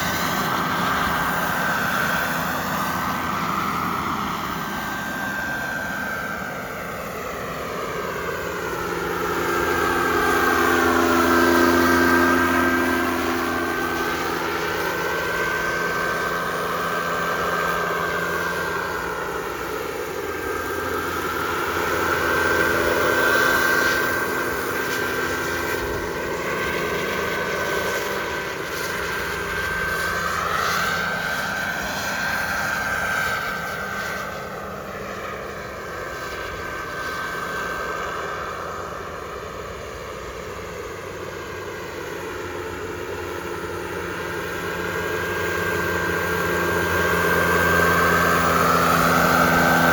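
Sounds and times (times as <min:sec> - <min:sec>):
model jet turbine whining: 0:00.0 - 0:49.9.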